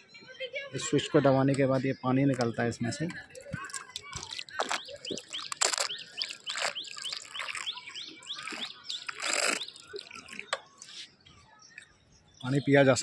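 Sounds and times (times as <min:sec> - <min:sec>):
small bird chirping: 0:01.5 - 0:13.0.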